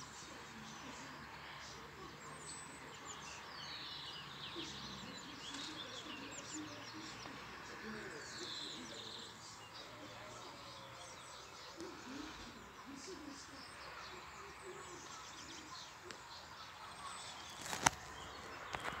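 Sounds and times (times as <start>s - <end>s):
faint birds chirping: 0.0s - 19.0s
outdoor background noise: 0.0s - 19.0s.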